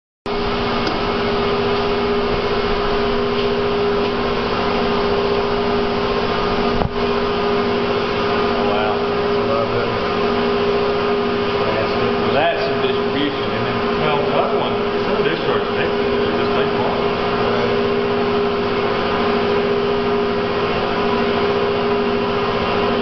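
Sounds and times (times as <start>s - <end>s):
mixer mechanical hum: 0.3s - 23.0s.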